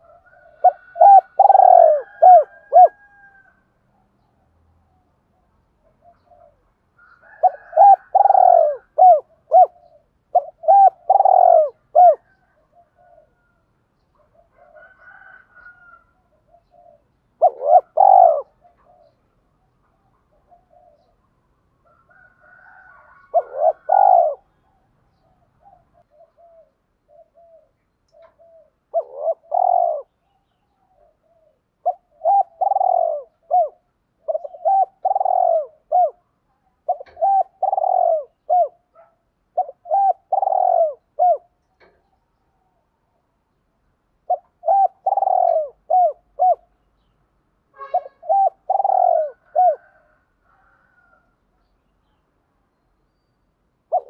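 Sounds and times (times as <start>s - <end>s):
dove cooing: 0.0s - 4.2s, 4.9s - 13.6s, 14.2s - 43.0s, 44.2s - 46.8s, 47.8s - 51.4s.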